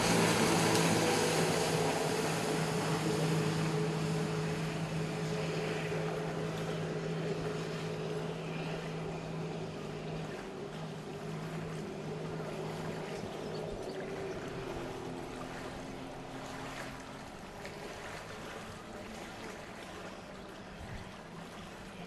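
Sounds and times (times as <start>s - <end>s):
boat engine running on water: 0.0s - 22.0s.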